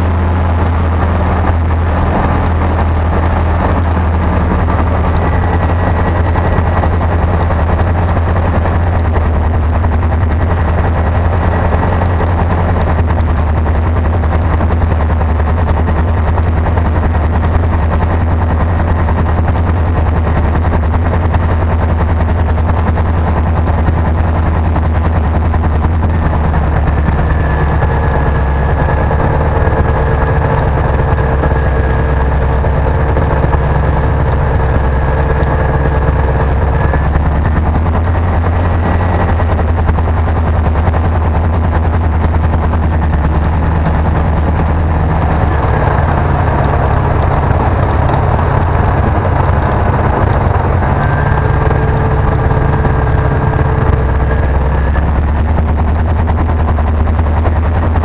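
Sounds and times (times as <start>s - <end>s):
faint high whine: 0.0s - 58.0s
light aircraft engine droning: 0.0s - 58.0s.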